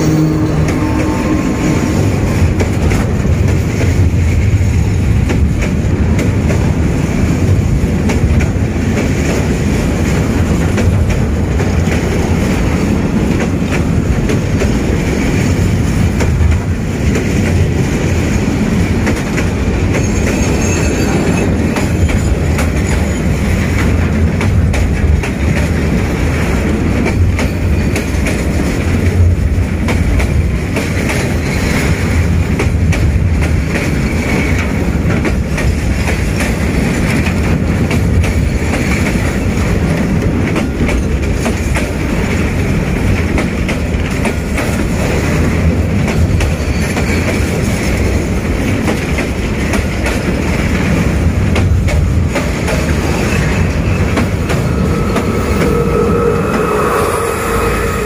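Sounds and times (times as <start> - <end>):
train wheels rumbling on rail: 0.0 - 58.0
wheels clacking over rail joints: 0.1 - 56.2.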